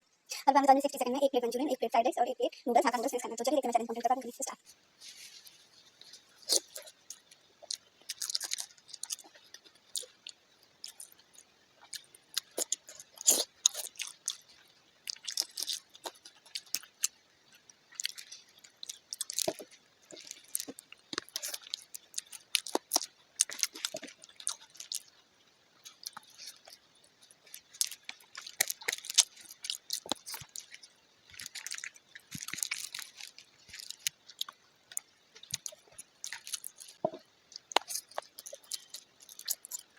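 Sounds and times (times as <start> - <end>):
person chewing food: 5.0 - 39.9.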